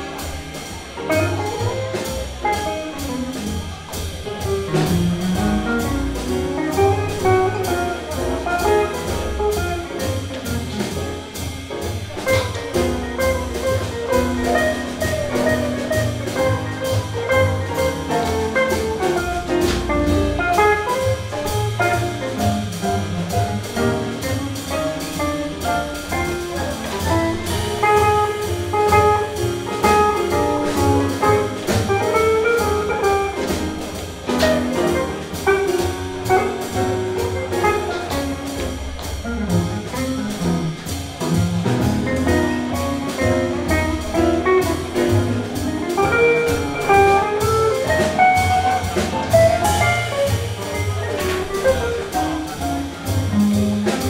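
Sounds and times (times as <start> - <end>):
drum kit beat: 0.0 - 54.0
guitar: 0.0 - 54.0
piano: 0.0 - 54.0
upright double bass: 0.0 - 54.0.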